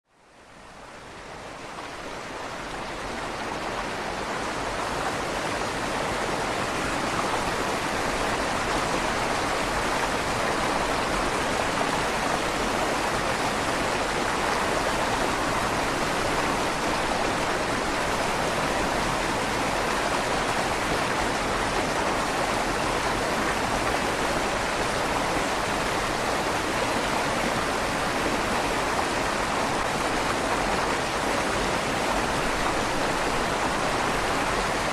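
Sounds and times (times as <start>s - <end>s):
river water rushing with echo: 0.1s - 34.9s.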